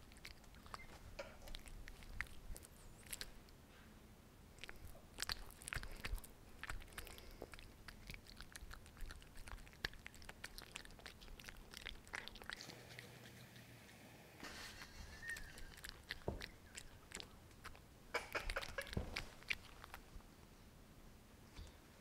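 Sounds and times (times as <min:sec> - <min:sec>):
cat chewing and crunching: 0:00.0 - 0:03.6, 0:04.5 - 0:20.3.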